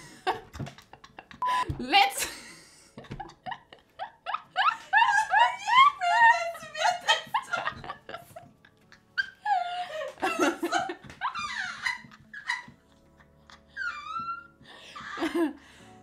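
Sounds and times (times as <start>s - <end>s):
woman laughing hard: 0.0s - 15.6s.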